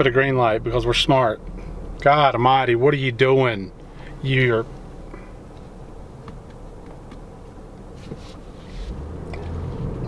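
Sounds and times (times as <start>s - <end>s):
engine and road rumble in car: 0.0s - 10.0s.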